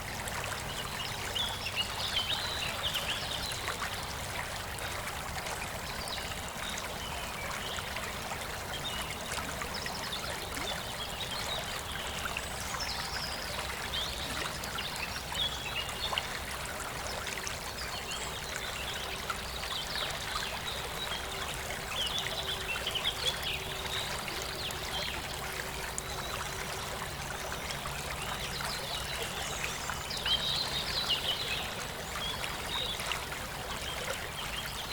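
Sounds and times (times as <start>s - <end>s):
river flowing: 0.0s - 34.9s.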